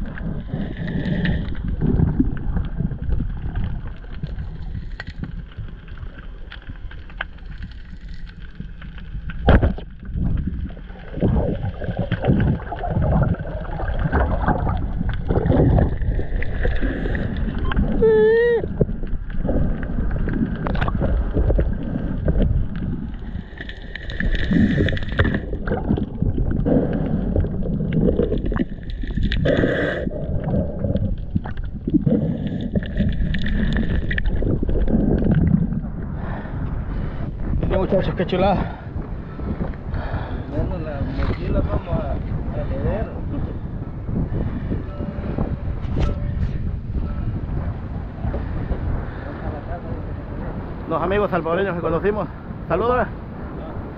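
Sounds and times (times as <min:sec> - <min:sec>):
water rushing against camera: 0:00.0 - 0:53.9.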